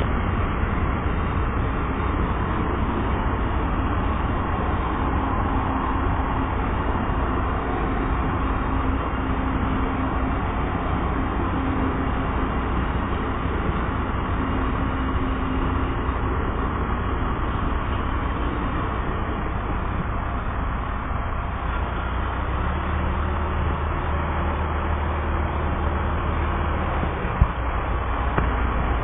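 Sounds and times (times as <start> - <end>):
low steady hum: 0.0 - 29.0
train rumbling on rails: 0.0 - 29.0.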